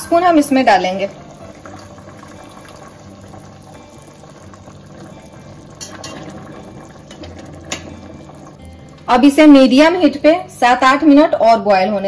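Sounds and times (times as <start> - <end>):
syrup bubbling in pot: 0.0 - 10.1.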